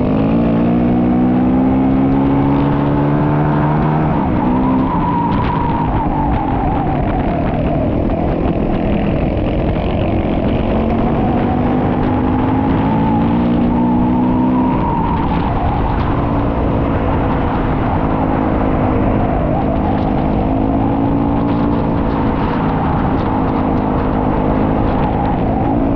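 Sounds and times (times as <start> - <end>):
motorcycle engine revving: 0.0 - 25.9
wind and tyre noise: 0.0 - 25.9.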